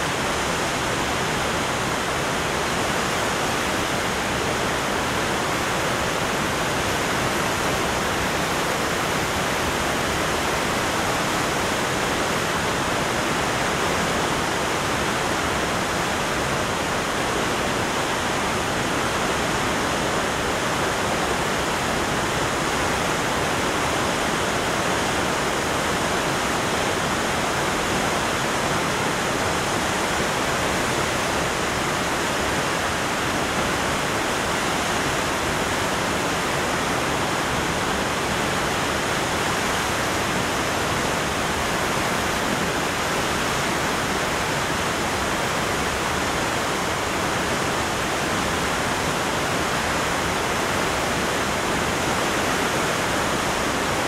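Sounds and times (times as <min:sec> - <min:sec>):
waterfall thundering: 0:00.0 - 0:54.0.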